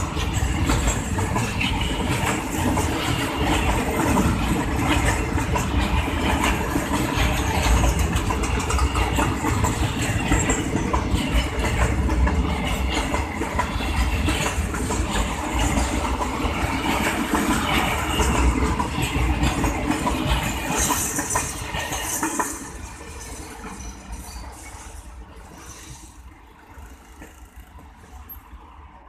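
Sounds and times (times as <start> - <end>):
train wheels clattering on rails: 0.0 - 28.8.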